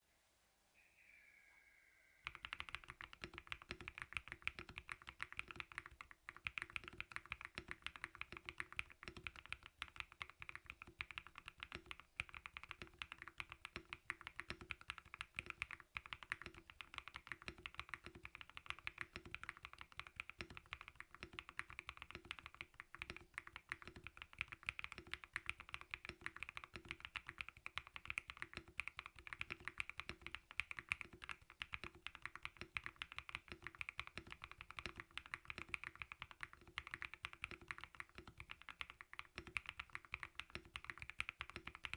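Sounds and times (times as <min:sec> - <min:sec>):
fast typing on mechanical keyboard: 0:02.2 - 0:41.9.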